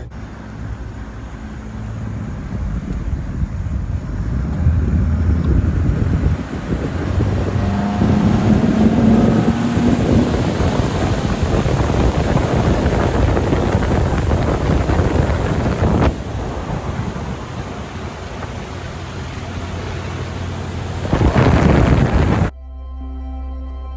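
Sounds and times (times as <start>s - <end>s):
boat motor running: 0.0s - 22.5s
wind buffeting microphone: 0.0s - 22.5s.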